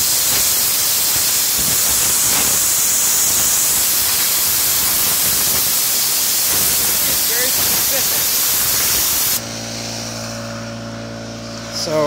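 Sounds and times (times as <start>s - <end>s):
compressed air hissing from blow gun: 0.0s - 10.4s.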